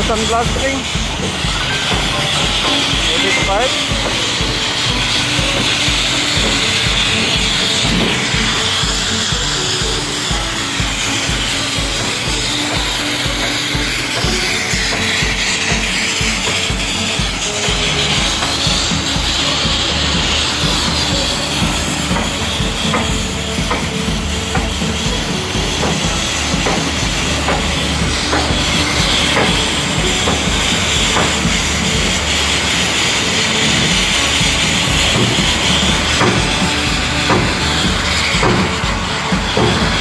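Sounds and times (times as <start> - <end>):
grit blaster hissing: 0.0 - 40.0.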